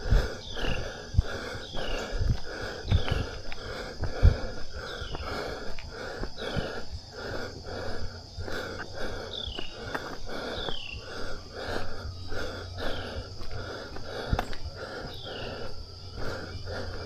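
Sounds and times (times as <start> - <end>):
heavy rhythmic breathing: 0.0 - 17.0.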